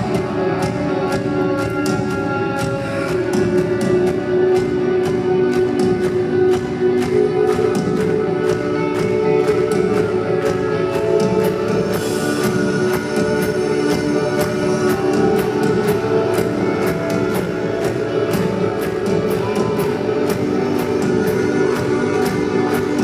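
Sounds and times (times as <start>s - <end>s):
guitar chords: 0.0s - 23.0s.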